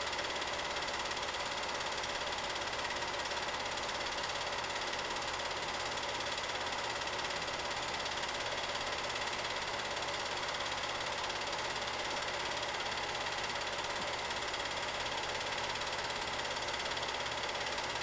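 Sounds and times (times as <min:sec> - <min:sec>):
film projector whirring: 0:00.0 - 0:18.0.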